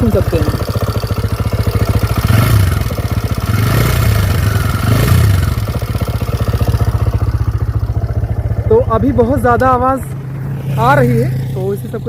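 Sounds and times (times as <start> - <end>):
motorcycle engine ticking rattle: 0.0 - 12.0.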